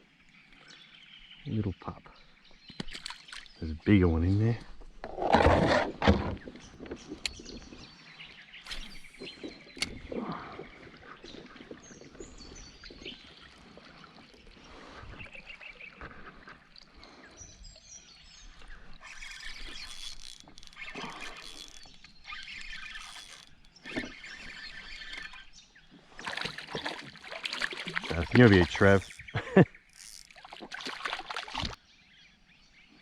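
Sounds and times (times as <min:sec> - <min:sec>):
birds chirping: 0:00.0 - 0:33.0
water sloshing around kayak: 0:02.2 - 0:31.8.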